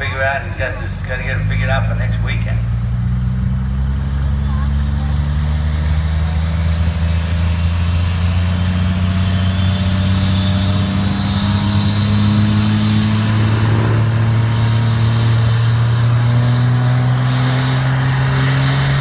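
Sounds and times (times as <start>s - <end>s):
vehicle engine running loudly: 0.0s - 19.0s.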